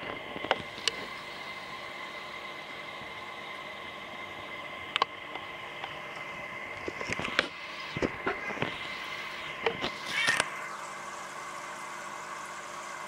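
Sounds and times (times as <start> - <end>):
aquarium equipment humming: 0.0 - 13.0.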